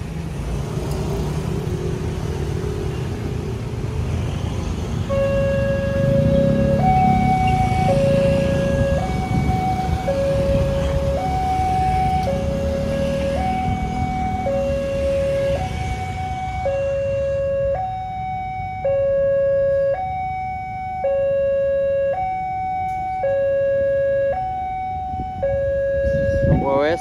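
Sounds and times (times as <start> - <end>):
motorcycle and traffic rumble: 0.0 - 27.0
two-tone level crossing alarm: 5.1 - 27.0.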